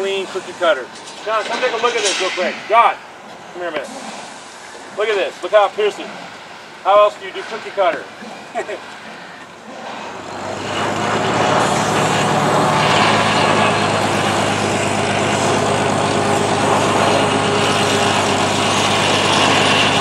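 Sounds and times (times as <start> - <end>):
machine engine droning: 0.0 - 20.0.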